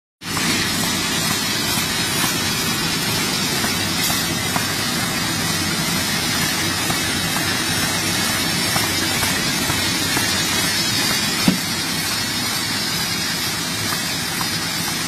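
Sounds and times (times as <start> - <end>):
box-forming machine running: 0.2 - 15.0.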